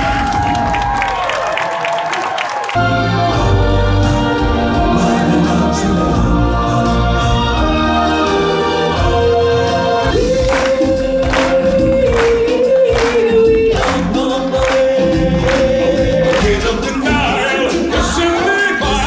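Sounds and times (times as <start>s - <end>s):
choir singing: 2.8s - 19.0s.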